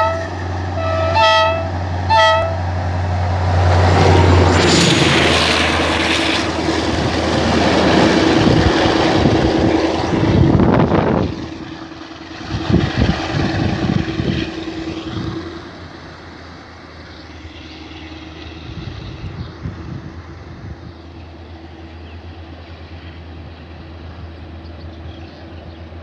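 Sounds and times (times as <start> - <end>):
diesel locomotive engine hum: 0.0 - 26.0
train wheels rolling on rails: 1.7 - 26.0.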